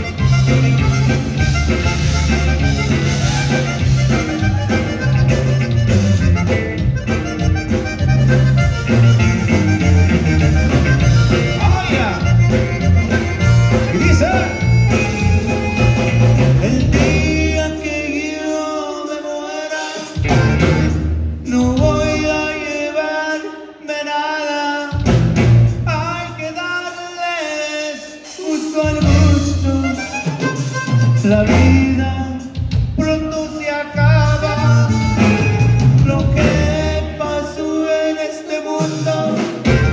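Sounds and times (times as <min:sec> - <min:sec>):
electric bass: 0:00.0 - 0:18.6, 0:20.1 - 0:22.7, 0:25.0 - 0:26.7, 0:28.8 - 0:39.9
button accordion: 0:00.0 - 0:22.7, 0:27.7 - 0:39.9
drums: 0:00.0 - 0:39.9
guitar: 0:00.0 - 0:39.9
live band playing: 0:00.0 - 0:39.9.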